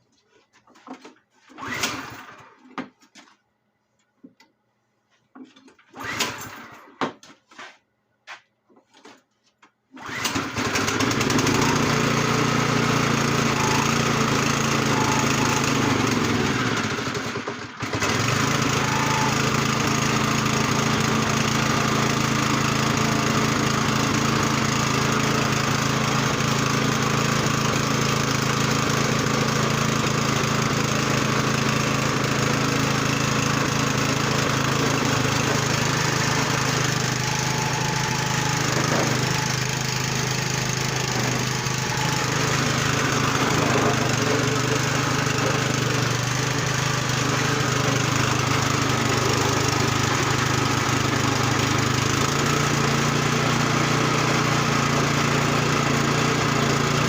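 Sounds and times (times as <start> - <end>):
snow blower engine running: 1.6 - 2.7, 5.9 - 7.0, 10.0 - 57.0.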